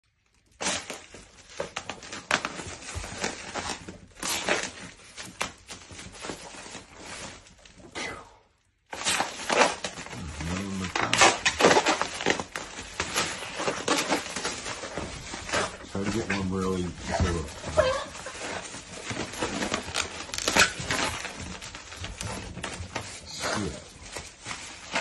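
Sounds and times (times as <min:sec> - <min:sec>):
plastic air pillows crinkling: 0:00.0 - 0:08.0, 0:08.6 - 0:25.0.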